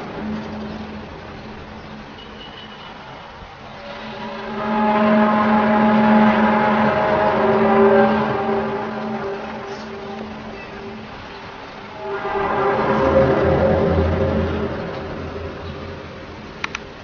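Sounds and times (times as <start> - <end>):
eerie droning with brassy tones: 0.0 - 17.0.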